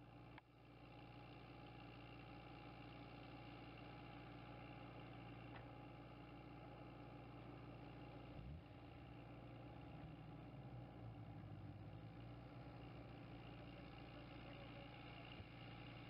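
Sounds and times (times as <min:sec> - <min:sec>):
faint diesel engine hum: 0:00.0 - 0:16.0.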